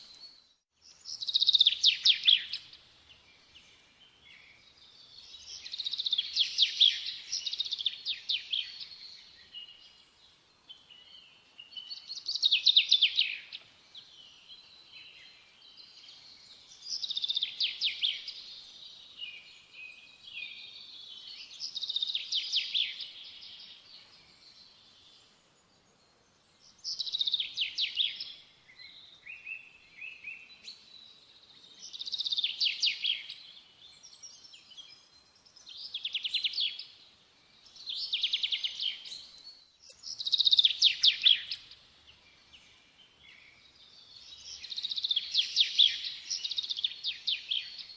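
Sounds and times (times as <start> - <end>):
songbird singing rapid trills: 0.0 - 47.9.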